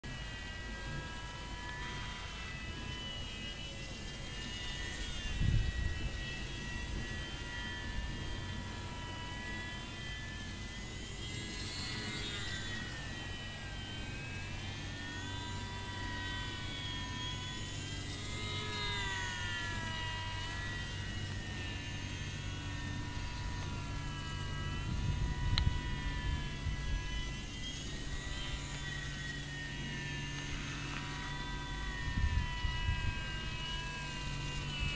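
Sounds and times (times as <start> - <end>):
model plane motor whining: 0.0 - 34.9.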